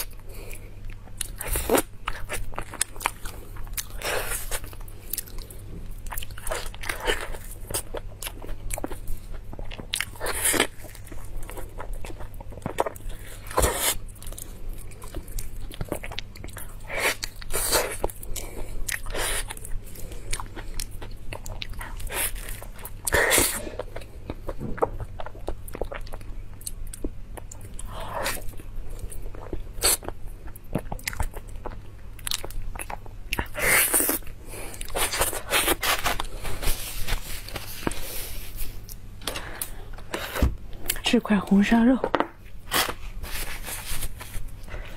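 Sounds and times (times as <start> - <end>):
biting and chewing: 0.0 - 41.0
steady low hum: 0.0 - 44.9.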